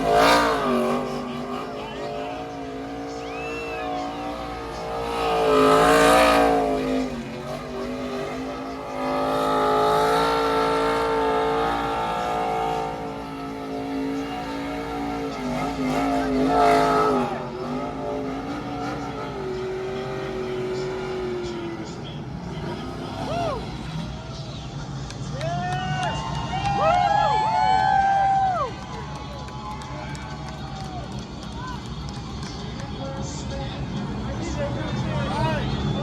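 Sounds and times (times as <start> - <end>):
race trucks passing: 0.0 - 36.0.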